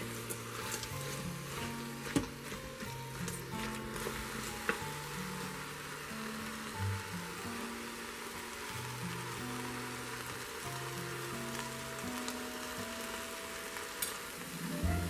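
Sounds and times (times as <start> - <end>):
slow background music: 0.0 - 15.0
stew sizzling: 0.0 - 15.0.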